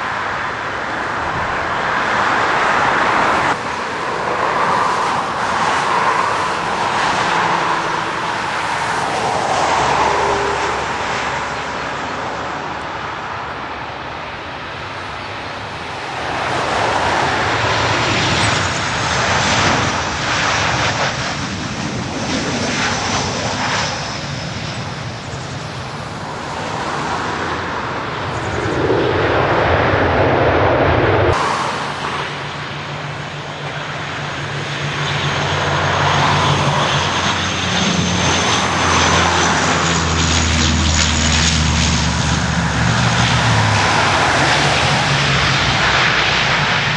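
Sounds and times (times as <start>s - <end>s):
airliner engines rumbling: 0.0s - 46.9s
high jet whine: 0.0s - 46.9s.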